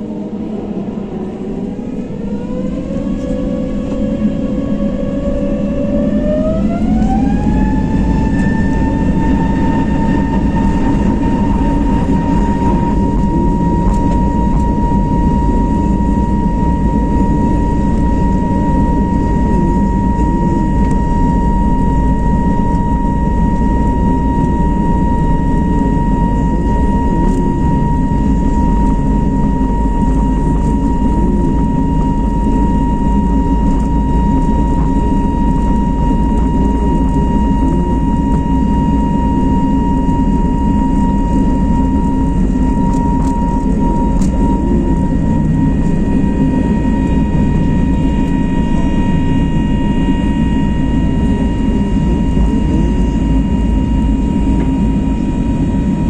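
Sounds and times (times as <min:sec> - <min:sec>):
jet engine whine rising: 0:00.0 - 0:56.0
loud cabin rumble: 0:00.0 - 0:56.0.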